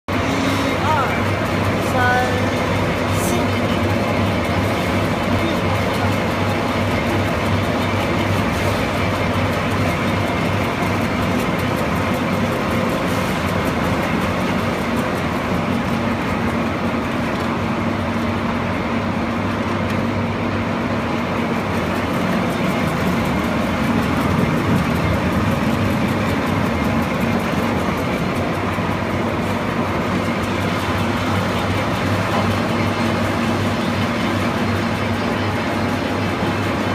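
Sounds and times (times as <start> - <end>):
granulator machine humming: 0.0 - 36.9.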